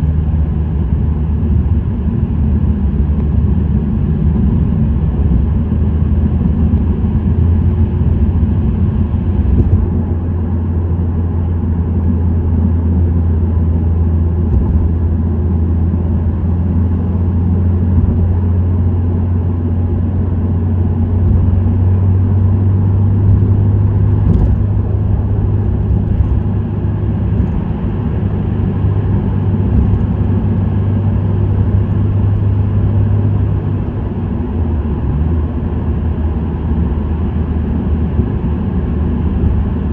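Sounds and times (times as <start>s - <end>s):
car exhaust drone: 0.0s - 39.9s
road noise: 0.0s - 39.9s.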